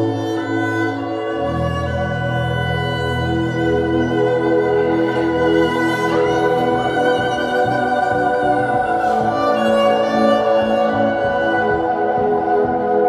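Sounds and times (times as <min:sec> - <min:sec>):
bowed strings slow melody: 0:00.0 - 0:13.0.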